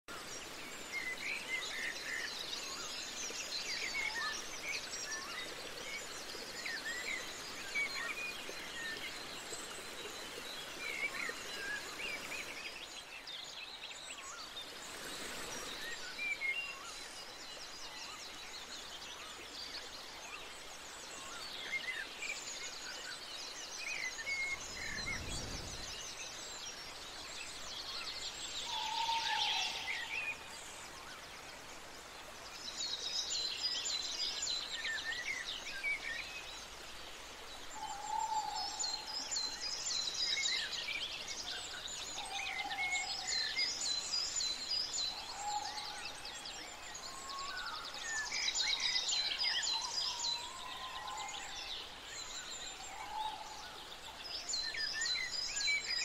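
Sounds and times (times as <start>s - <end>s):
steady outdoor hiss: 0.1s - 56.0s.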